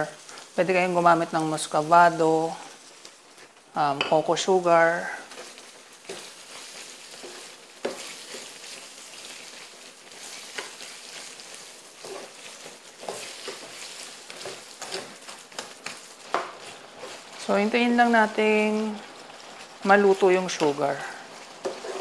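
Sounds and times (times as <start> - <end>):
food sizzling in skillet: 0.0 - 22.0
spatula scraping pan: 2.0 - 18.4, 20.5 - 22.0.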